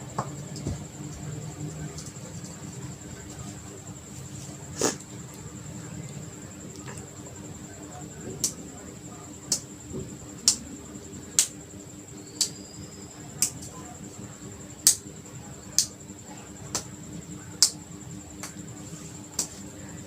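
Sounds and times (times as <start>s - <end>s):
faint high-pitched whine: 0.0s - 20.0s.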